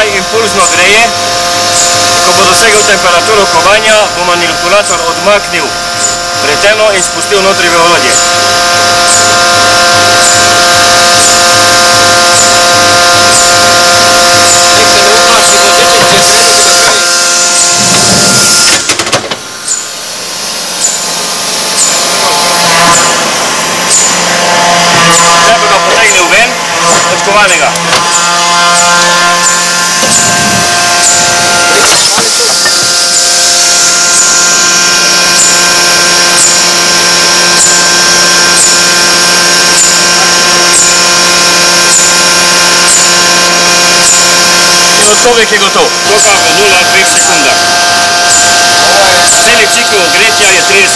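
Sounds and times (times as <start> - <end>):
forging machine humming and hissing: 0.0 - 50.9
heating unit buzzing: 0.0 - 50.9.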